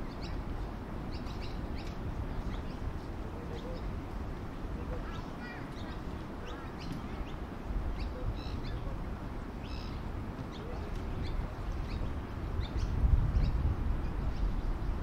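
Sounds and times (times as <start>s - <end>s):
small birds chirping: 0.0s - 4.0s, 4.7s - 9.0s, 9.6s - 15.0s.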